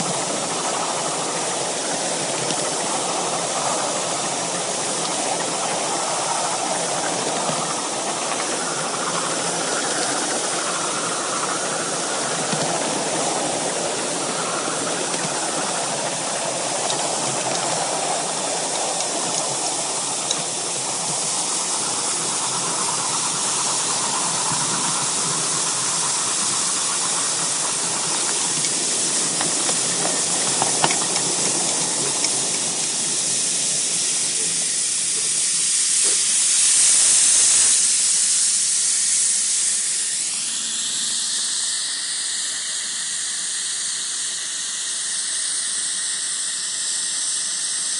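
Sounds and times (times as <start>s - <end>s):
model steam locomotive hissing: 0.0s - 47.9s.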